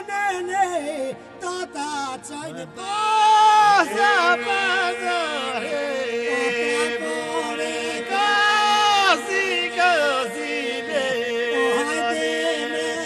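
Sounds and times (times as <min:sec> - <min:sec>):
person singing ornamented melody: 0:00.0 - 0:13.0.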